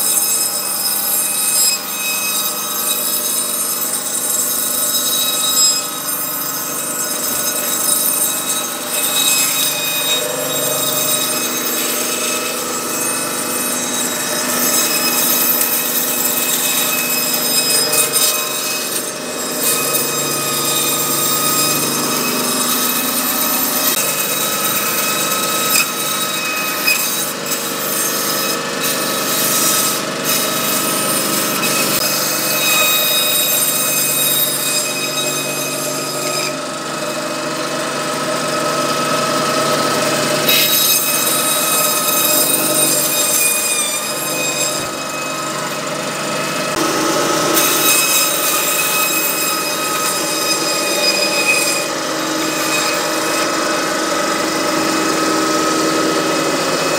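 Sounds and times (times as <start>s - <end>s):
band saw cutting bone: 0.0s - 56.9s.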